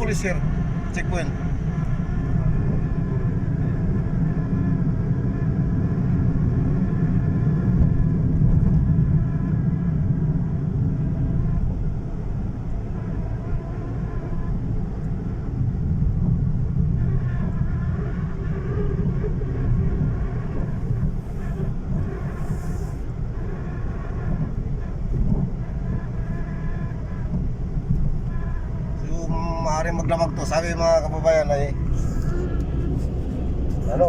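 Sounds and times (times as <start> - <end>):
car engine hum from inside: 0.0 - 34.0
road noise: 0.0 - 34.0.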